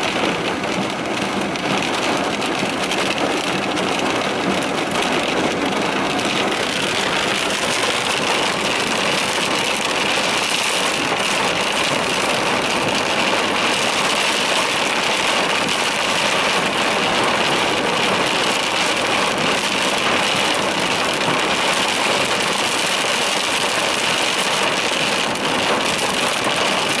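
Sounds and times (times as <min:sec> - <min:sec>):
torrential rain pouring: 0:00.0 - 0:27.0.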